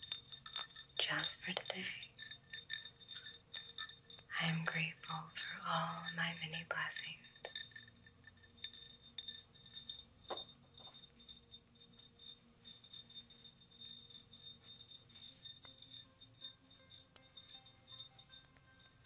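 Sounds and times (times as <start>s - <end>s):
fingers clinking on glass: 0.0s - 19.0s.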